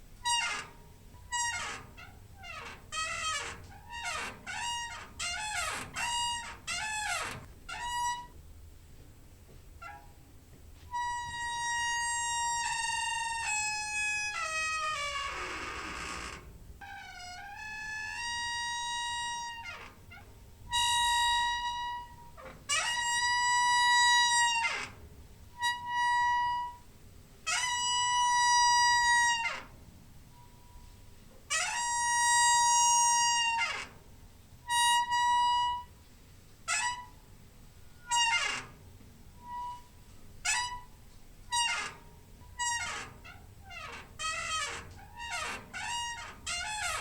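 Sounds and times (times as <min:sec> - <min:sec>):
door hinge squeaking: 0:00.0 - 0:08.4, 0:09.8 - 0:10.2, 0:10.9 - 0:25.0, 0:27.5 - 0:30.9, 0:31.5 - 0:34.0, 0:34.6 - 0:36.0, 0:36.7 - 0:37.2, 0:37.9 - 0:38.8, 0:39.4 - 0:47.0.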